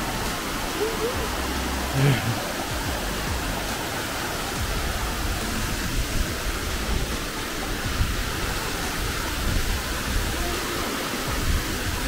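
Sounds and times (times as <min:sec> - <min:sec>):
white water rushing over rocks: 0:00.0 - 0:12.0.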